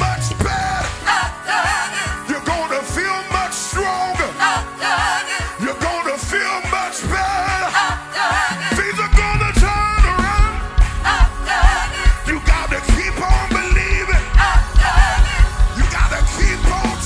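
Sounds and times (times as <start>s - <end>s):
band playing over steady beat: 0.0s - 17.0s
singers singing gospel: 0.0s - 17.0s.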